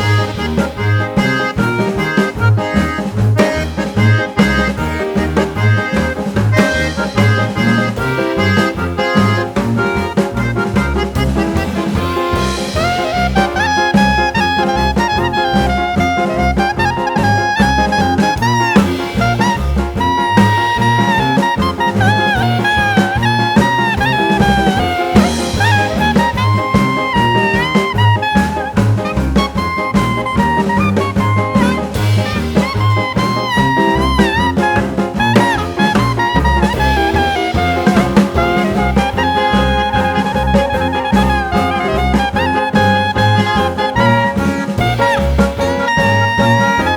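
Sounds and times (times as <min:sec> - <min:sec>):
swing jazz music: 0:00.0 - 0:46.9.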